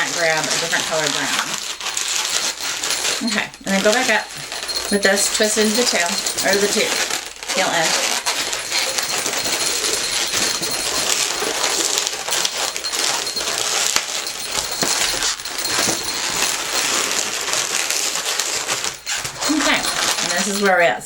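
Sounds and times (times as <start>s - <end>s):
balloons squeaking and rubbing: 0.0s - 21.0s.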